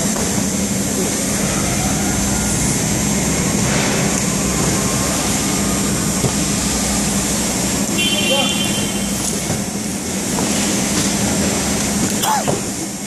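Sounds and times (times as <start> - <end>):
conveyor belts and machinery humming: 0.0 - 13.0.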